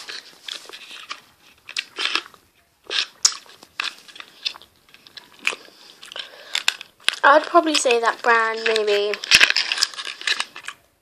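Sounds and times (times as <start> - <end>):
person chewing crunchy candy: 0.0 - 11.0.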